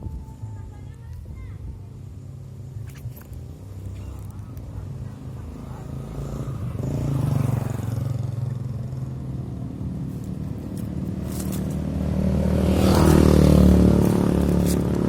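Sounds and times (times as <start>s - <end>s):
vehicle engine approaching: 1.8s - 15.0s.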